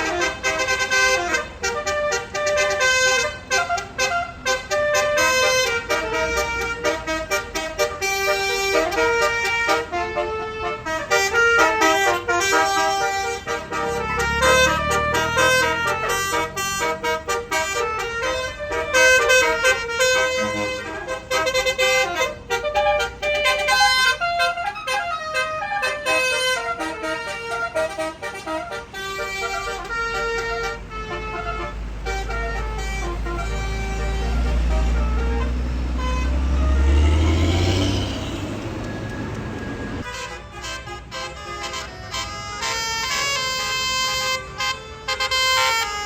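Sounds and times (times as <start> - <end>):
bus horn playing a tune: 0.0 - 46.0
engine rumble: 0.0 - 46.0.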